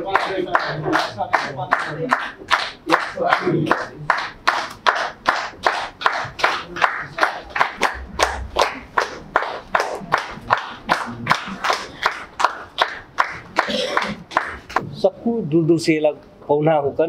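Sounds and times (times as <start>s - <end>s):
audience clapping in unison: 0.0s - 14.8s.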